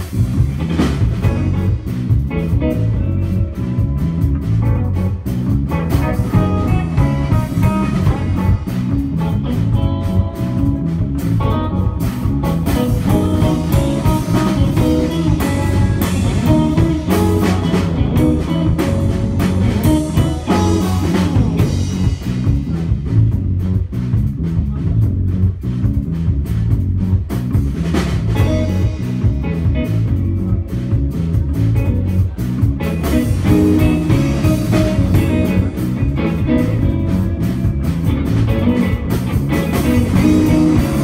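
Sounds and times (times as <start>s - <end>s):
drum kit groove: 0.0s - 41.0s
electric bass: 0.0s - 41.0s
electric guitar melody: 0.0s - 41.0s.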